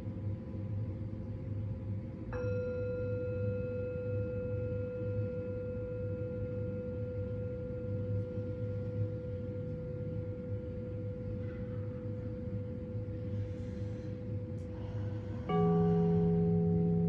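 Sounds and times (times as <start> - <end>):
low hum: 0.5 - 17.0
metal singing bowl ringing: 2.4 - 13.4, 14.2 - 17.0.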